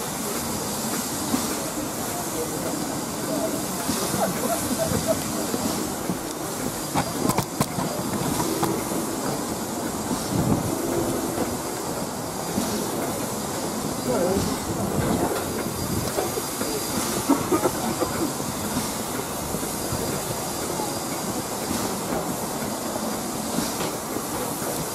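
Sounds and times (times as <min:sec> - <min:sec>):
crowd voices: 0:00.0 - 0:22.3
steam locomotive hissing steam: 0:00.0 - 0:24.9.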